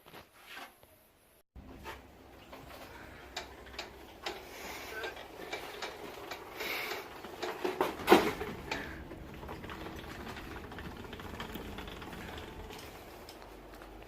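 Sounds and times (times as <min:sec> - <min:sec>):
irregular clicks and knocks: 0:02.4 - 0:14.0.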